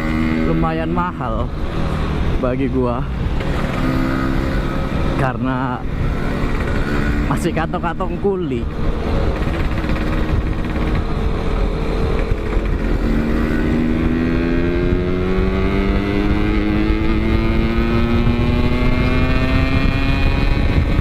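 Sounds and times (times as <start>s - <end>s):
motorcycle engine accelerating: 0.0s - 21.0s
wind rumble on microphone: 0.0s - 21.0s.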